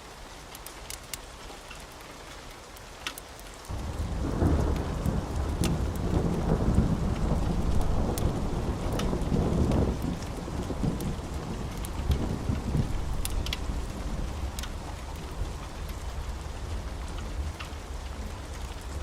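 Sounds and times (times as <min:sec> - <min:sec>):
wood fire crackling and popping: 0:00.5 - 0:19.0
thunder rumbling: 0:03.7 - 0:19.0.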